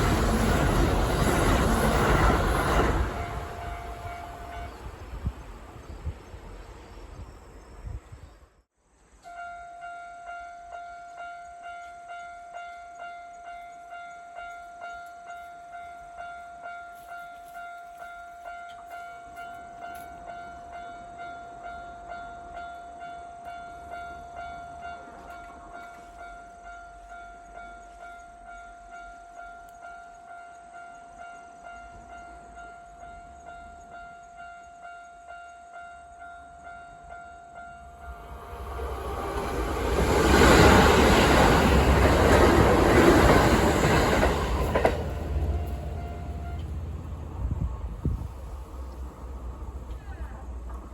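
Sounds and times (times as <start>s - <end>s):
level-crossing warning bell ringing: 0.0s - 5.1s, 9.3s - 47.3s.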